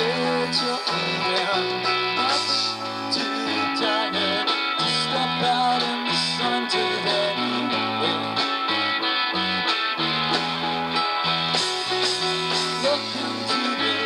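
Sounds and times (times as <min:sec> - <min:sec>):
bass line: 0:00.0 - 0:14.0
drums: 0:00.0 - 0:14.0
electric guitars: 0:00.0 - 0:14.0.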